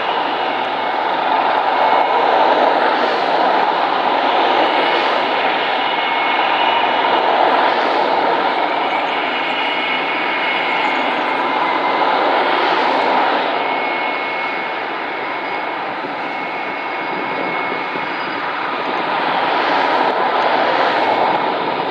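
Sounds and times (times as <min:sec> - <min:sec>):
piston engine planes flying past: 0:00.0 - 0:21.9.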